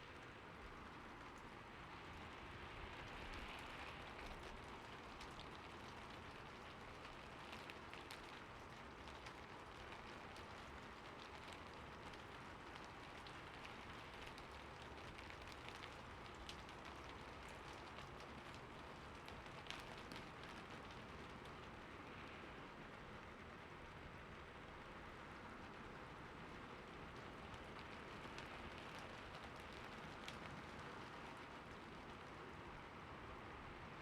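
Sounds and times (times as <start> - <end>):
soft rain hiss: 0.0 - 34.0
raindrop ticks: 0.1 - 22.4, 25.6 - 32.9.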